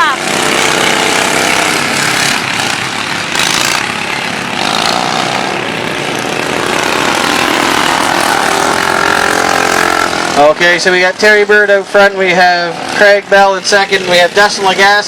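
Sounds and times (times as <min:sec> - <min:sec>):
racing lawn mower engines: 0:00.0 - 0:15.0.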